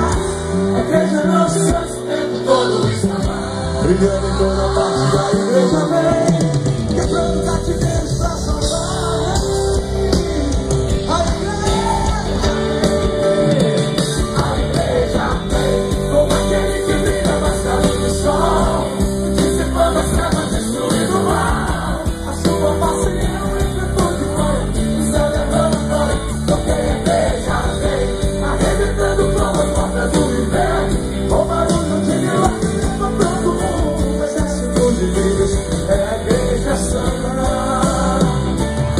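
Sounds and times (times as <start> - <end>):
lead singer: 0.0 - 38.9
live rock-style gospel band: 0.0 - 38.9.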